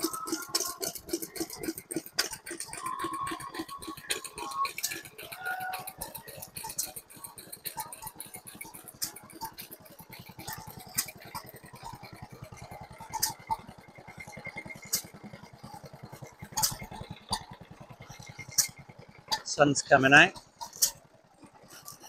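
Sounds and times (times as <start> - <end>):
stationary engines running: 0.0 - 22.0.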